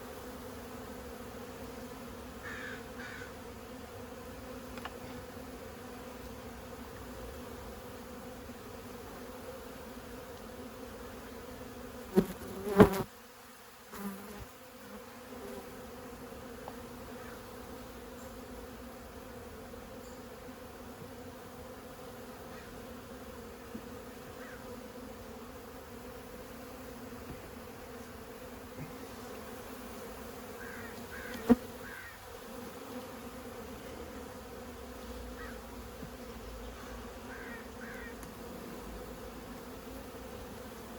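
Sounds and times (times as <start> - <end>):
honey bees buzzing: 0.0 - 40.9.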